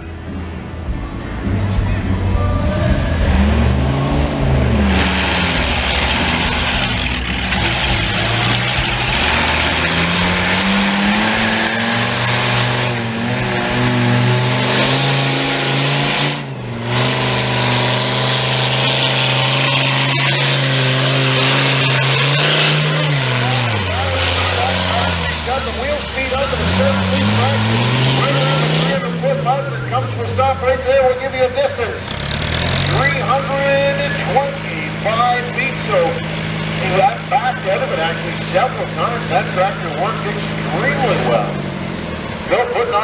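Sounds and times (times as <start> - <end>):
tractor engine revving: 0.0 - 43.0.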